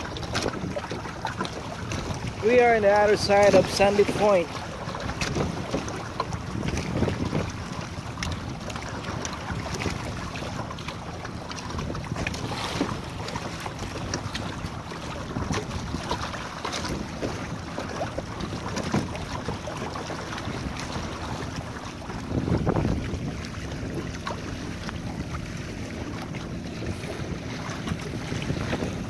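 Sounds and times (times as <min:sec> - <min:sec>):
rush of water: 0:00.0 - 0:29.0
small waves slapping hull: 0:00.0 - 0:29.0
wind buffeting microphone: 0:00.0 - 0:29.0.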